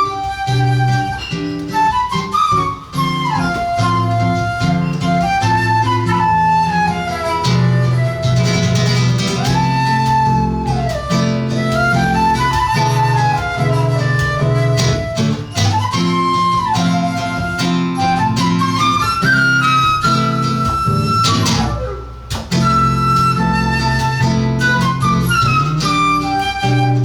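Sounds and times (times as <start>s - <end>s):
flute melody: 0.0s - 27.0s
plucked guitar chords: 0.0s - 27.0s.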